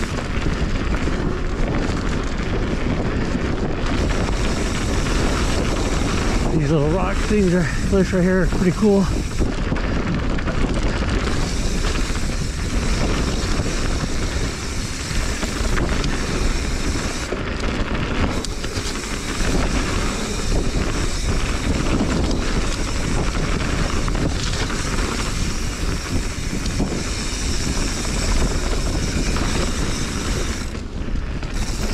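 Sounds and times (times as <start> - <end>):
bike tyres rumbling on dirt: 0.0 - 31.9
wind rushing over microphone: 0.0 - 31.9.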